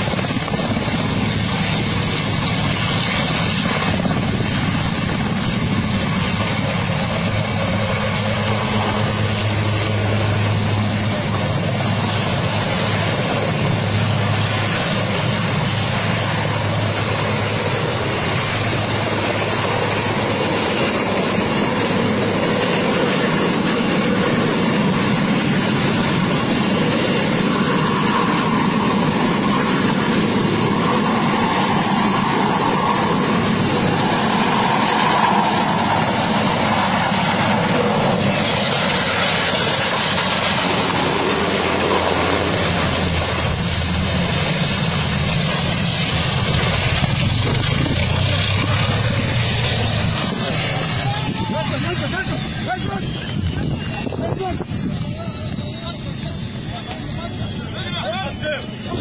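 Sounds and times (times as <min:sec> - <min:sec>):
helicopter flying low: 0:00.0 - 0:59.0.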